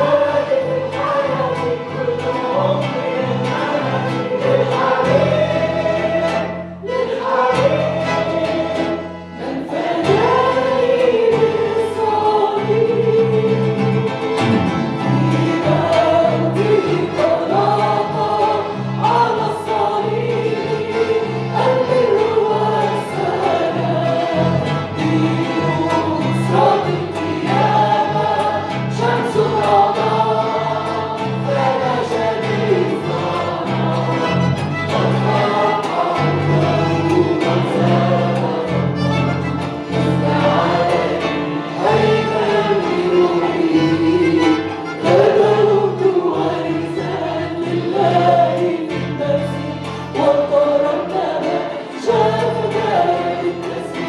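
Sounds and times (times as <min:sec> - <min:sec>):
instrumental accompaniment: 0:00.0 - 0:54.0
voices singing a hymn: 0:00.0 - 0:54.0.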